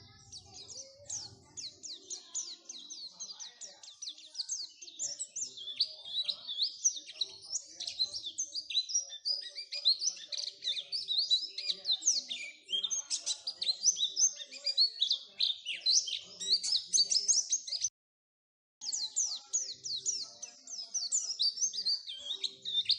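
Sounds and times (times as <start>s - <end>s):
bird song chirps and twitters: 0.0s - 17.9s, 18.8s - 22.9s.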